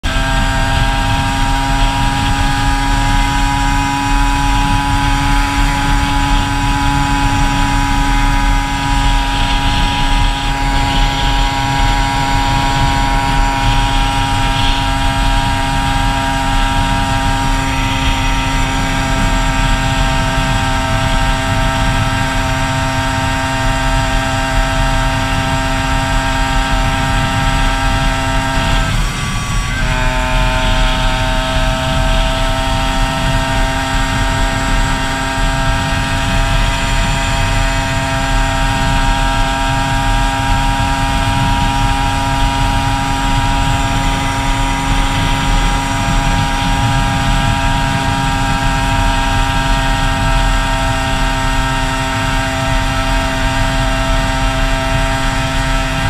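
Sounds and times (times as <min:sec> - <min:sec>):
motorcycle engine running: 0:00.0 - 0:56.0
wind on microphone: 0:00.0 - 0:56.0.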